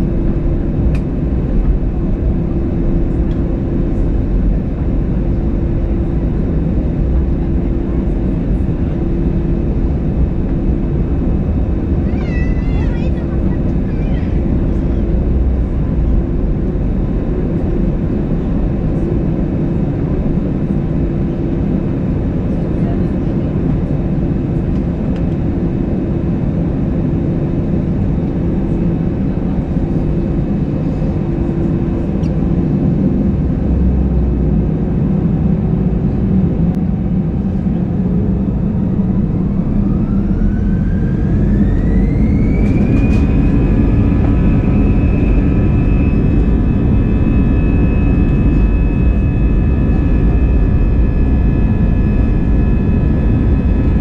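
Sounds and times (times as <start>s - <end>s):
jet engine low rumble: 0.0s - 54.0s
jet engine whine: 0.0s - 54.0s.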